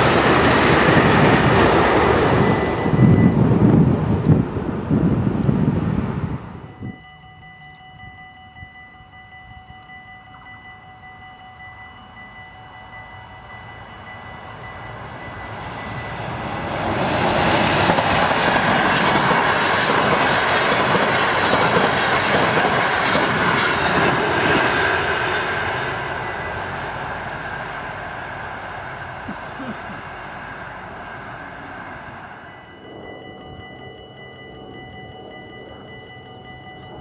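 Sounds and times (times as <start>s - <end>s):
train passing at speed: 0.0s - 37.0s.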